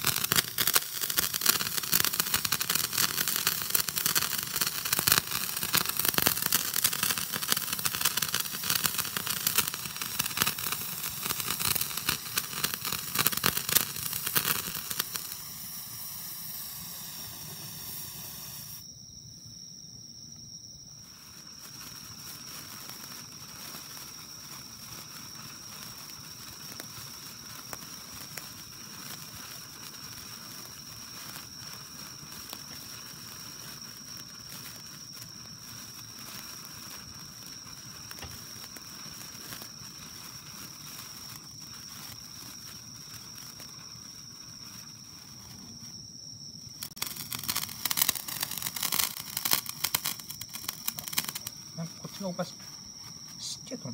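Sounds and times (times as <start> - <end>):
sparkler crackling: 0.0 - 18.9, 20.9 - 53.9
crackling firework hissing: 0.0 - 53.9.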